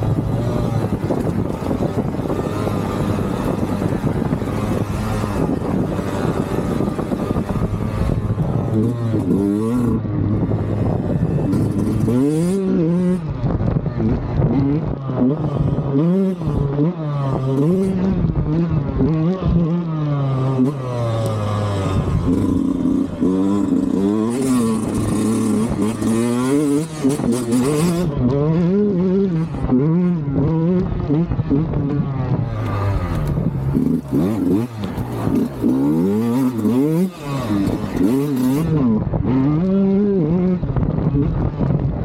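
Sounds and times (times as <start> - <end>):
two-stroke motorcycle engine revving: 0.0 - 42.0.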